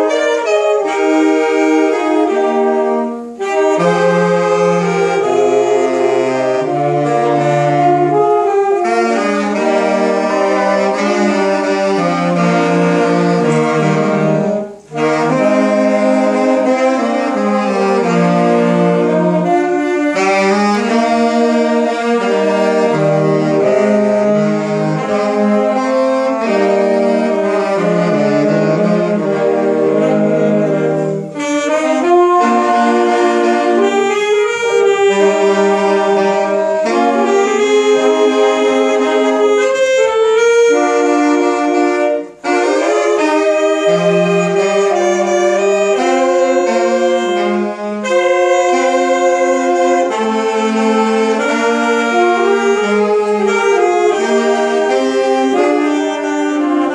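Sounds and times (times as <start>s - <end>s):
saxophone ensemble playing: 0.0s - 56.9s.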